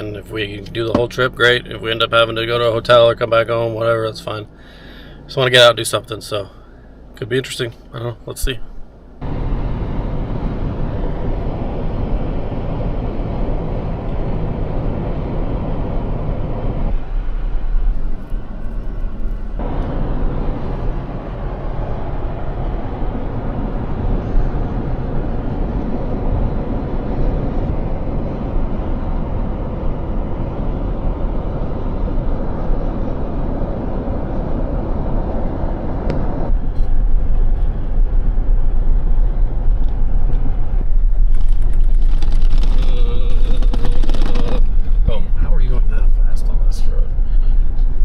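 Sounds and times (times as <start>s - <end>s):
truck driving at speed: 0.0s - 48.0s.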